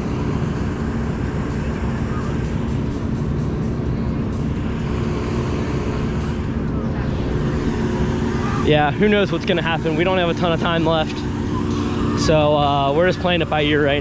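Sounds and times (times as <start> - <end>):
vehicle engines droning: 0.0 - 14.0.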